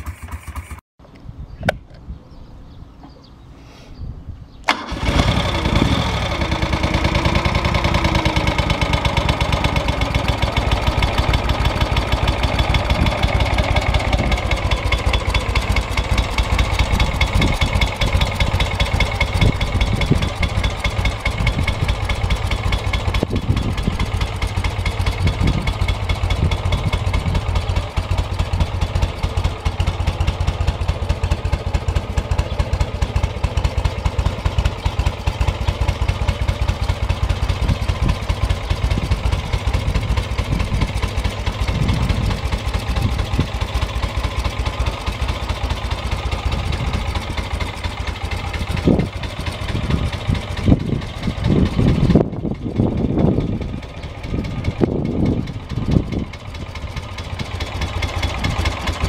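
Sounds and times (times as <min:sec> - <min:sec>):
motorcycle engine idling: 0:00.0 - 0:00.8, 0:04.7 - 0:59.0.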